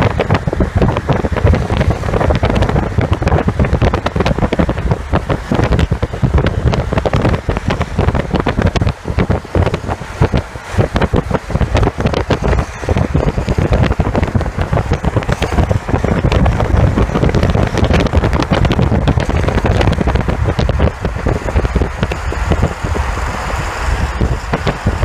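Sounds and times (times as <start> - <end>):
gusting wind buffeting microphone: 0.0 - 25.0.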